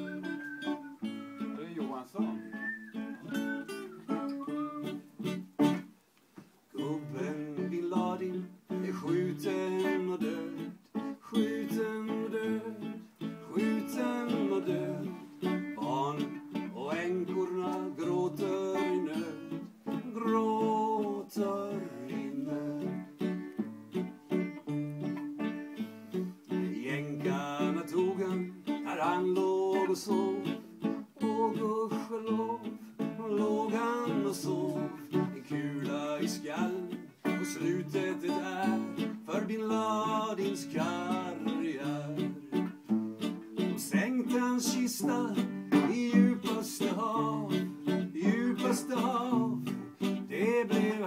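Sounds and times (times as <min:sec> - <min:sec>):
acoustic guitar playing: 0:00.0 - 0:06.0, 0:06.7 - 0:51.0.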